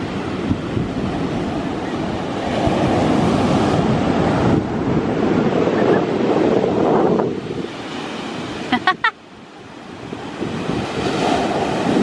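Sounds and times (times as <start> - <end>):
wind buffeting microphone: 0.0 - 8.8, 9.4 - 12.0
surf breaking on beach: 0.0 - 12.0.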